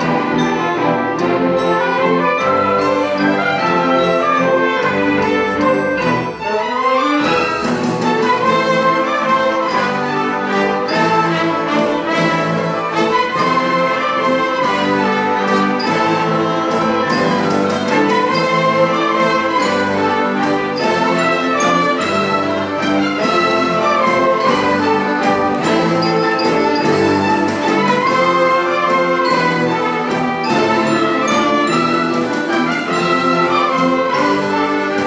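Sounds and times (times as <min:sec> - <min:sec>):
orchestra playing with strings: 0:00.0 - 0:35.0.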